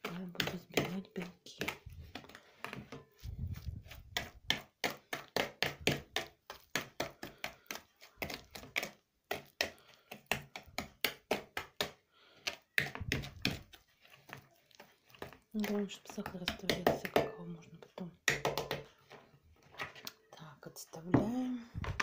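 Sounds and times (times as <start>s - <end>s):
spoon stirring in a bowl: 0.0s - 22.0s.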